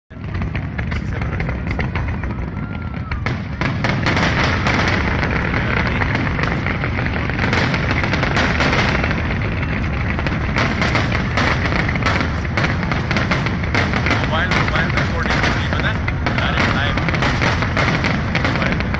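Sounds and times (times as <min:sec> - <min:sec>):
fireworks crackling and banging: 0:00.1 - 0:18.9.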